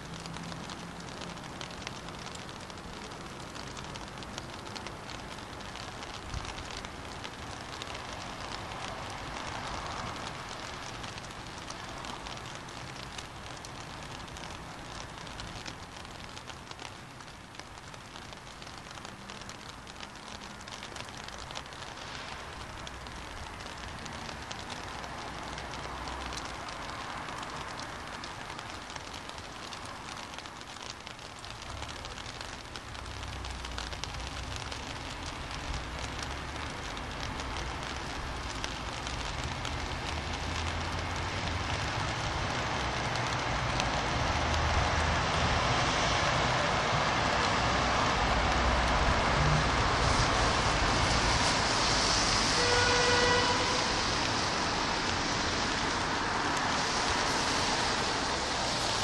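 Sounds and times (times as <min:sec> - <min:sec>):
rain: 0:00.0 - 0:59.0
tyre hiss on wet road: 0:00.0 - 0:59.0.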